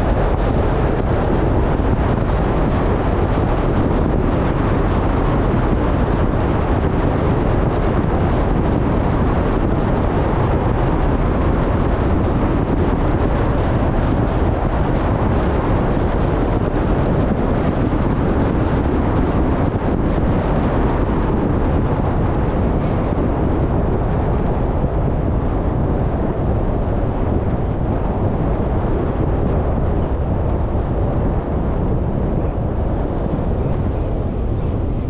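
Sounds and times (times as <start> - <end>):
car road and wind noise: 0.0 - 35.0.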